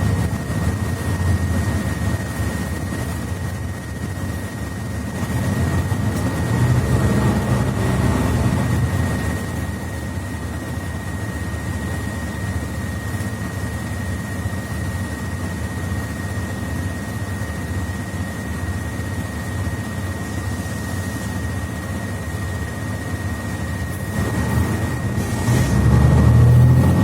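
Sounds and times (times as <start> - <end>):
bus interior rumble: 0.0 - 27.0.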